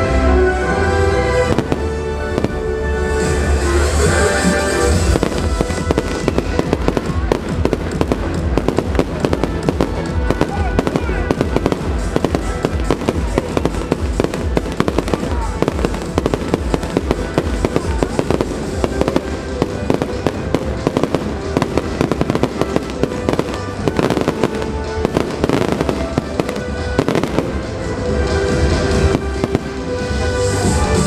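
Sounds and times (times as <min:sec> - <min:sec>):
music playing: 0:00.0 - 0:31.0
fireworks bangs and crackling: 0:01.3 - 0:31.0.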